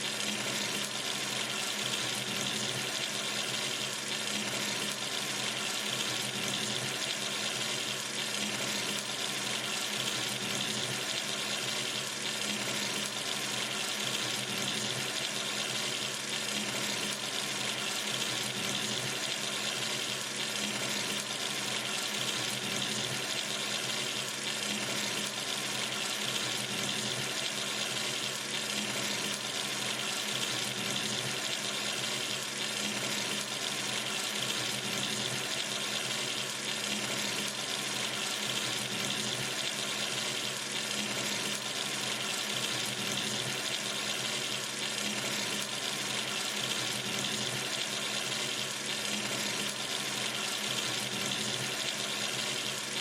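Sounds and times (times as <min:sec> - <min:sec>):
tap water pouring into sink: 0:00.0 - 0:53.0.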